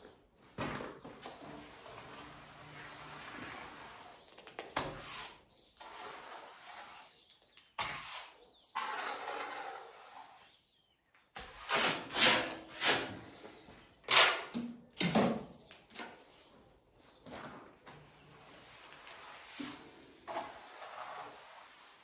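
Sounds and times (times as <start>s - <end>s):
trowel scraping mortar: 1.2s - 10.7s, 11.4s - 16.2s, 18.4s - 22.0s.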